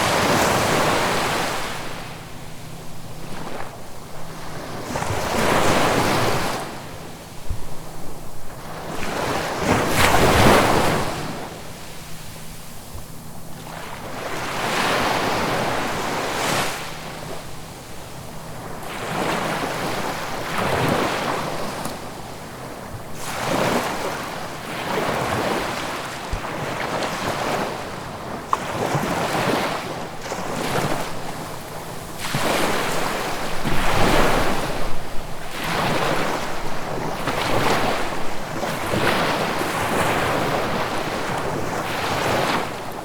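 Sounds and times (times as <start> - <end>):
sea waves breaking on shore: 0.0 - 43.0.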